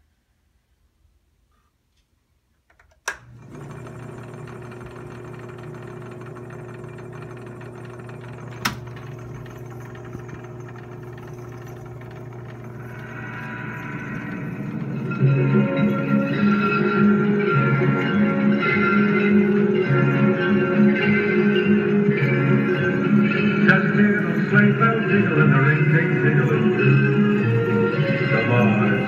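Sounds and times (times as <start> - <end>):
tape recorder hum: 1.5 - 29.0
music from tape speaker: 3.4 - 29.0.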